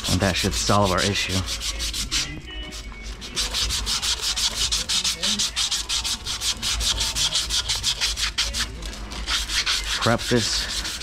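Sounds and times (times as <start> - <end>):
pipe being sanded by hand: 0.0 - 11.0.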